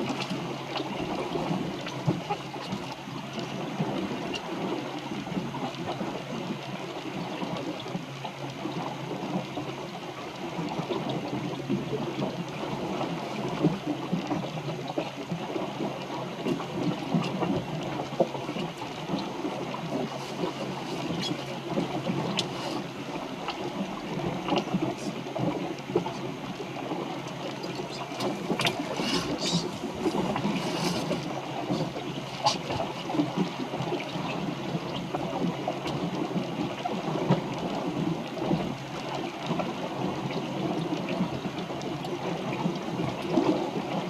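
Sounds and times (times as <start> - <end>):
small water splashes: 0.0 - 44.0
water gurgling along boat hull: 0.0 - 44.0.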